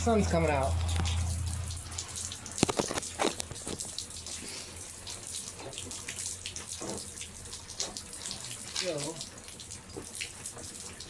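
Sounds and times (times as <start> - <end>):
rainwater running and dripping: 0.0 - 11.0
sharp splashing drips: 0.0 - 11.0.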